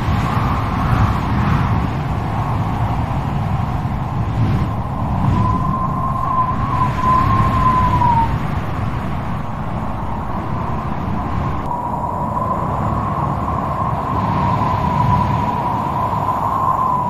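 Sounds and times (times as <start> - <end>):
howling wind whistle: 0.0 - 17.0
strong wind rumbling: 0.0 - 17.0.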